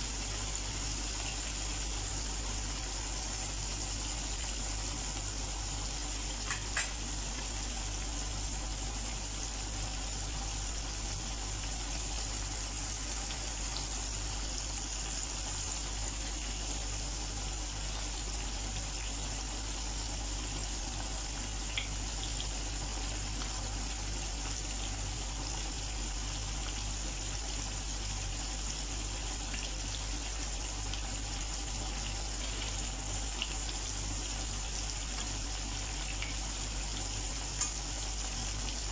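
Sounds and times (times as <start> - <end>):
chicken deep-frying in oil: 0.0 - 38.9.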